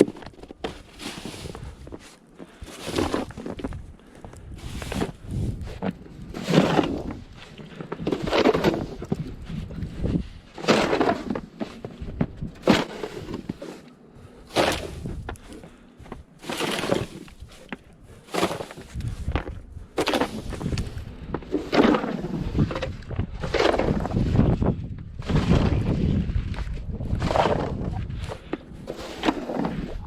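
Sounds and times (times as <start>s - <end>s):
crunching in snow: 0.0s - 22.8s, 23.4s - 30.0s.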